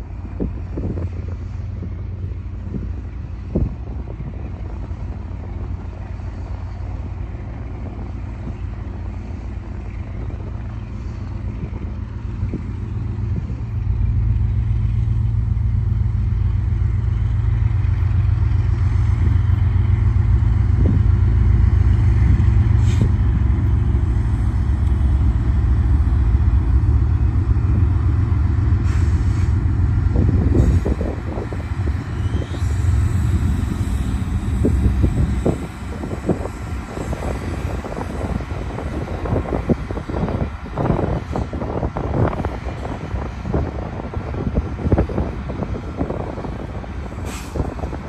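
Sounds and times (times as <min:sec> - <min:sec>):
train passing with low rumble: 0:00.0 - 0:48.0.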